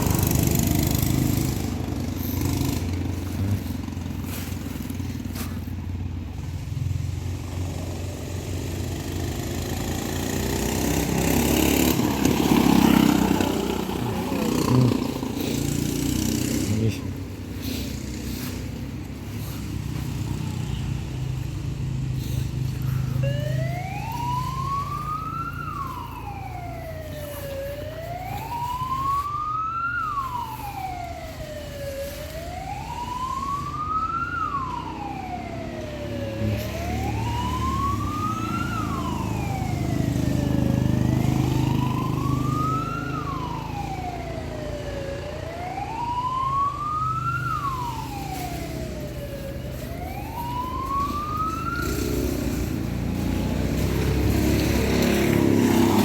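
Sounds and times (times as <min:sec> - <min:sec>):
wailing siren: 0:00.0 - 0:06.5, 0:07.3 - 0:56.0
low engine rumble: 0:00.0 - 0:08.7, 0:11.9 - 0:56.0.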